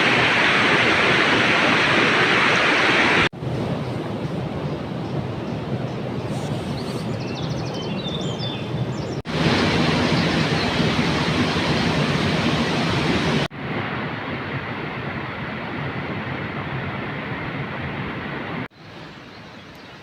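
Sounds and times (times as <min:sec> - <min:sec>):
steady outdoor rushing noise: 0:00.0 - 0:20.0.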